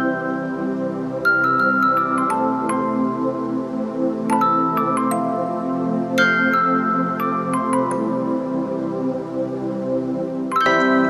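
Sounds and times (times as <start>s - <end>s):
soft bell-like music: 0.0s - 11.0s.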